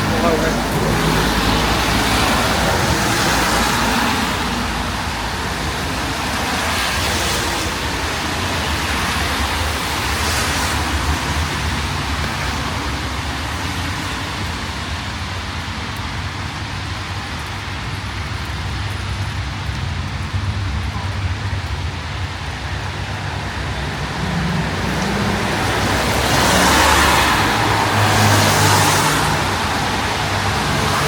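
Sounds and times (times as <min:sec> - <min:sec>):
cars passing: 0:00.0 - 0:16.0, 0:18.5 - 0:31.0
low traffic rumble: 0:00.0 - 0:31.0.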